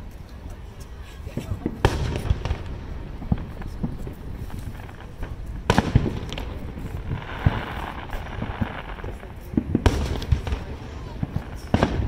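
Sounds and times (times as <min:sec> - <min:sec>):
fireworks crackling hiss: 0:00.0 - 0:12.0
fireworks booming: 0:01.2 - 0:12.0.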